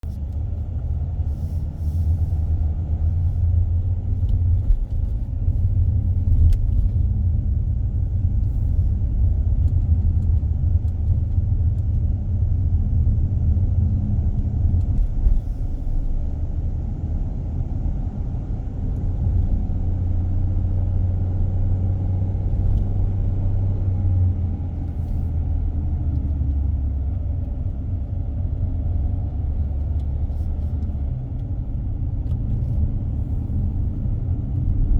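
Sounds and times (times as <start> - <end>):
car tyres and engine rumble: 0.0 - 34.9.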